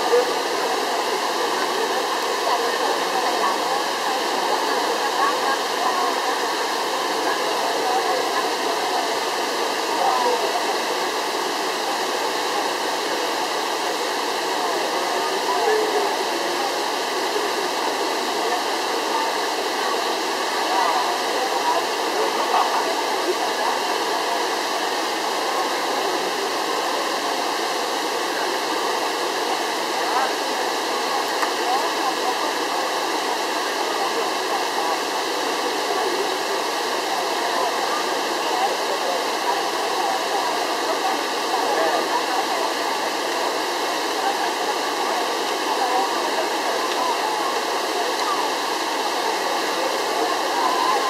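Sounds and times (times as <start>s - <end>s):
faint crowd chatter: 0.0s - 51.0s.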